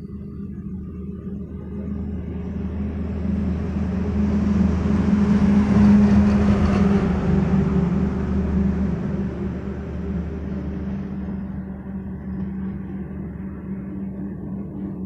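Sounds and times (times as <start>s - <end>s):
vehicle engine hum: 0.0s - 15.0s
road noise: 0.6s - 15.0s.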